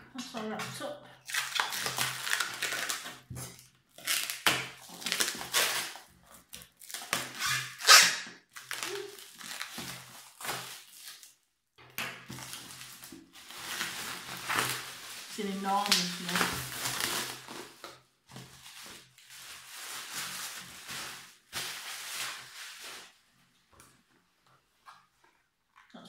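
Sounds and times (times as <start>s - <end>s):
plastic wrapping rustling: 0.2s - 11.5s, 12.2s - 24.1s.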